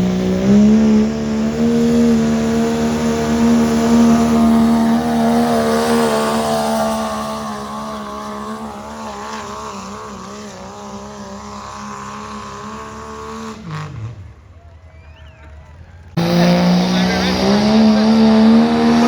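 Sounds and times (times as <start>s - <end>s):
diesel truck engine at high revs: 0.0s - 19.0s.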